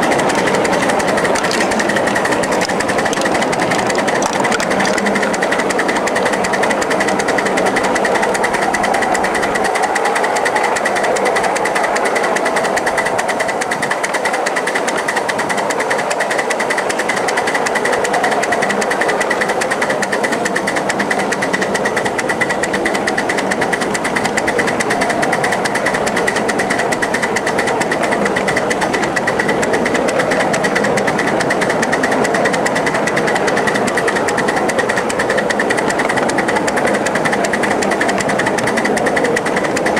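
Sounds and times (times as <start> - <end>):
steam locomotive clatter: 0.0 - 39.9.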